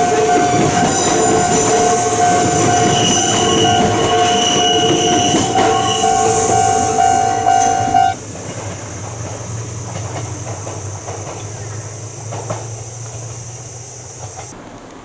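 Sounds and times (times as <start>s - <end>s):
level crossing warning tone: 0.0s - 14.5s
rail-joint clicks: 0.0s - 14.6s
train passing: 0.0s - 15.0s.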